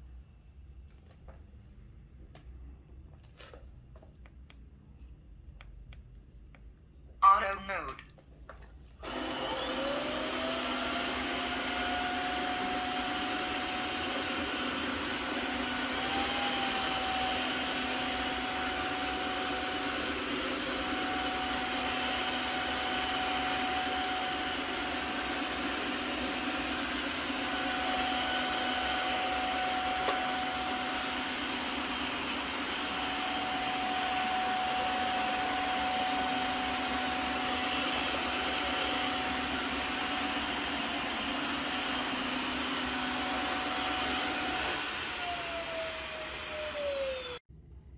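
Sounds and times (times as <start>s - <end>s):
vacuum motor whining: 9.0s - 47.4s.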